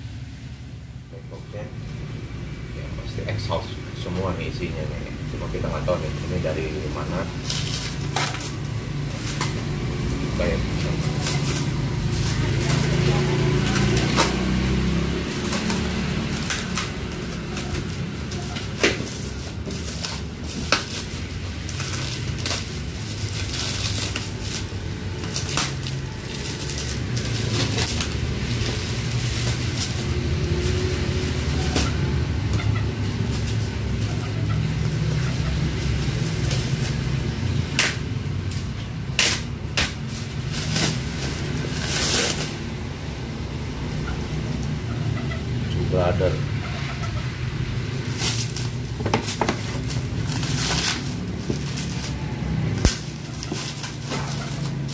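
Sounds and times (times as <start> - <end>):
plastic wrap tearing and crinkling: 5.5 - 43.1, 47.2 - 54.9.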